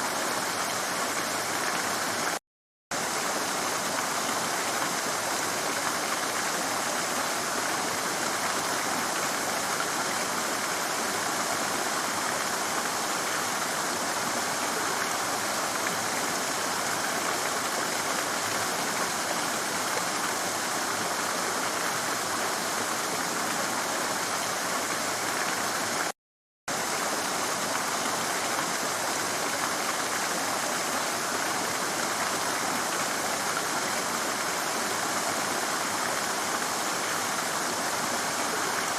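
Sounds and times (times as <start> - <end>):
stream splashing over rocks: 0.0 - 26.1, 26.7 - 38.9.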